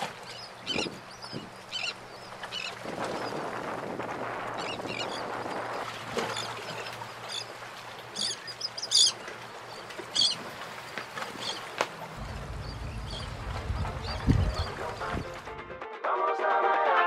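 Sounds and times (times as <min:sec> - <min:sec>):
birds chirping: 0:00.0 - 0:03.6, 0:04.5 - 0:15.5.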